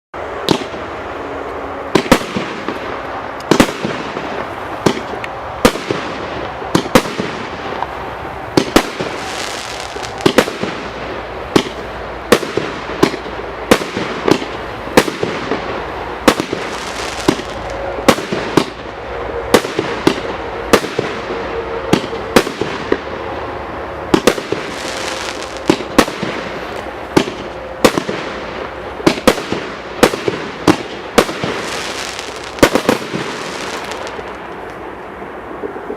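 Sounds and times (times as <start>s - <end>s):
firework whistle: 0.2s - 34.8s
firework bangs: 0.2s - 35.9s
fireworks crackling hiss: 0.3s - 35.9s.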